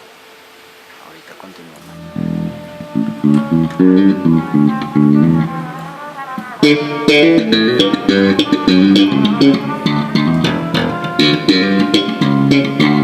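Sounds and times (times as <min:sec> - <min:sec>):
band playing: 0:01.8 - 0:13.0
electric bass and guitar notes: 0:01.8 - 0:13.0.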